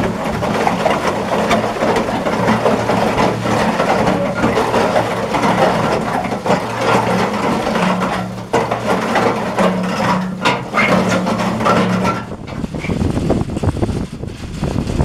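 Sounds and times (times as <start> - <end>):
concrete mixer churning: 0.0 - 15.0
drive motor hum: 0.0 - 15.0.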